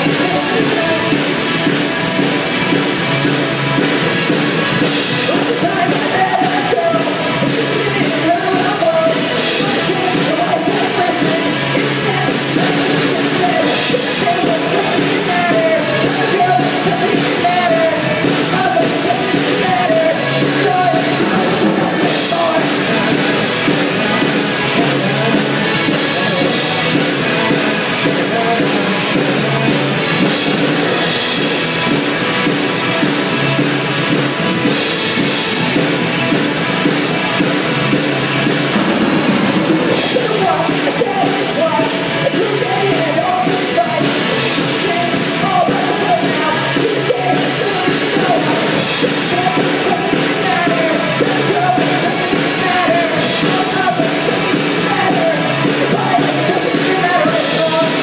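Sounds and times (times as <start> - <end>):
bending guitar melody: 0.0 - 58.0
live rock band playing: 0.0 - 58.0.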